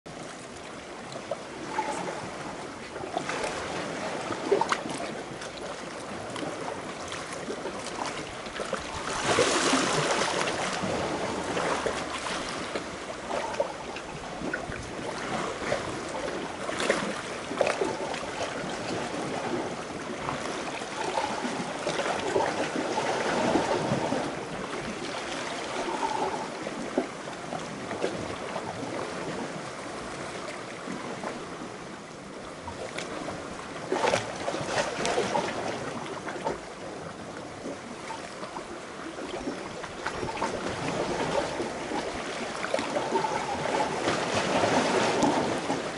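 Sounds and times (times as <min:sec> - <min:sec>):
seawater lapping against rocks: 0:00.1 - 0:45.9.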